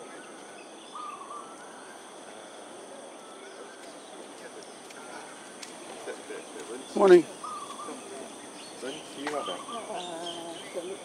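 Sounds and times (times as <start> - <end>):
birds chirping: 0.0 - 11.0
faint high insect tones: 0.0 - 11.0
steady background hiss: 0.0 - 11.0.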